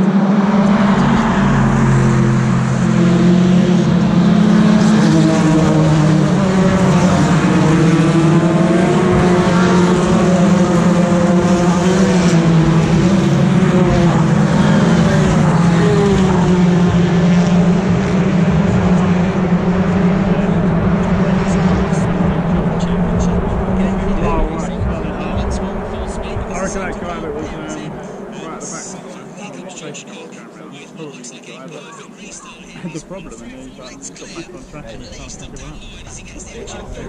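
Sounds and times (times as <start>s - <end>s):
racing car engines passing: 0.0s - 37.0s.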